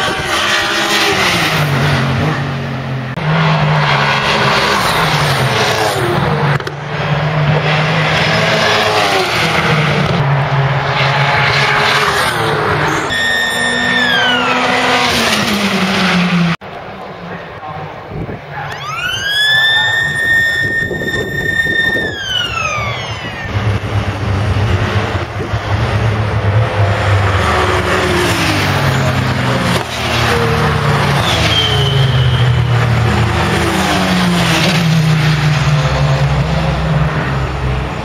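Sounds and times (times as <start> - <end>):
race car passing at high revs: 0.0 - 13.1, 13.7 - 17.2, 18.8 - 38.0.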